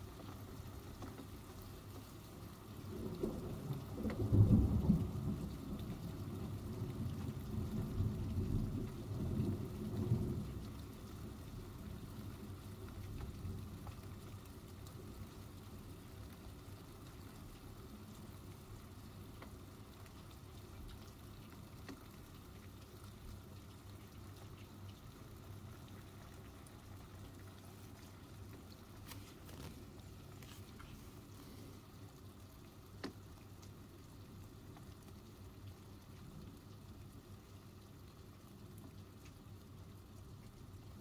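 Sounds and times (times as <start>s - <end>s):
faint rain dripping: 0.0s - 41.0s.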